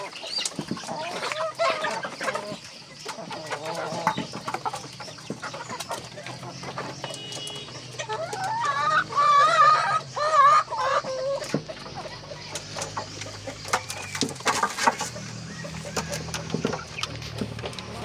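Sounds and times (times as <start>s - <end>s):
chicken drawn-out calls: 0.0s - 18.0s
chickens clucking: 0.0s - 18.0s.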